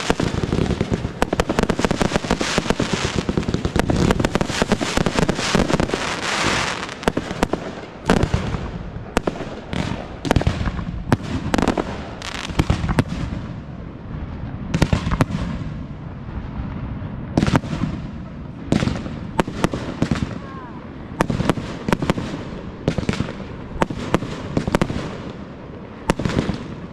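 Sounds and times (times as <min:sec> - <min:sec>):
fireworks bangs: 0:00.0 - 0:26.9
fireworks crackle: 0:00.0 - 0:26.9.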